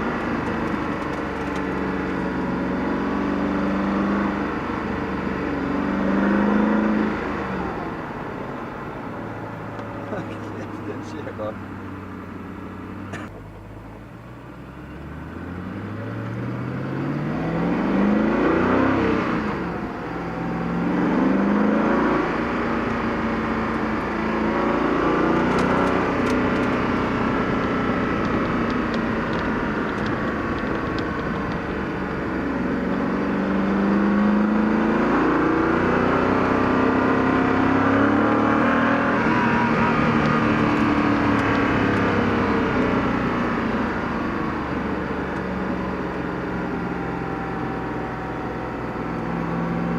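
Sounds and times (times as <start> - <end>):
car engine accelerating through gears: 0.0 - 49.9.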